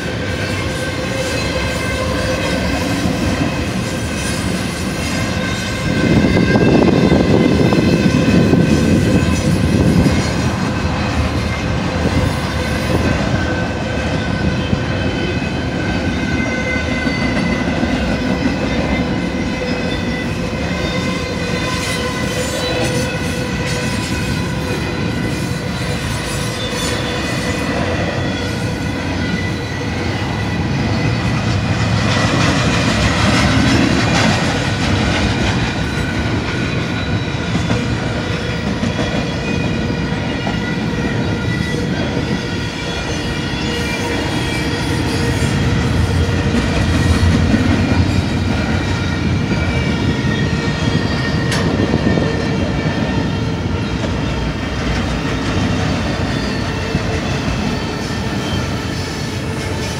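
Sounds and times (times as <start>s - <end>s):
freight train wheels rumbling and clacking: 0.0s - 59.9s.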